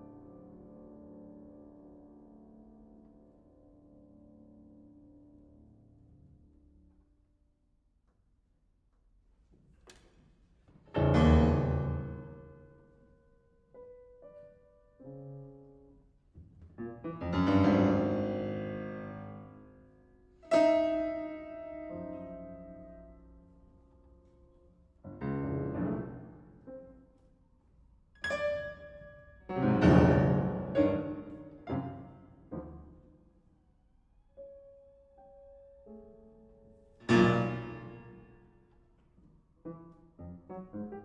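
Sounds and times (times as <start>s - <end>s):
classical piano: 0.0s - 7.2s, 9.7s - 41.0s.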